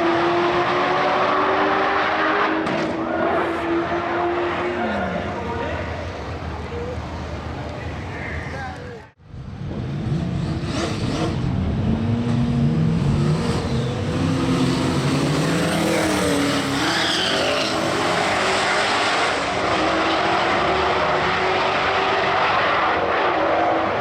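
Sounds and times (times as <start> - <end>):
car engines at full throttle: 0.0 - 8.4, 9.2 - 24.0.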